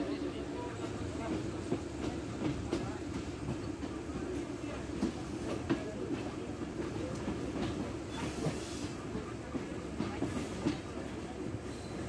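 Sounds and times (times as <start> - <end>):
train wheels clicking over rail joints: 0.8 - 12.0.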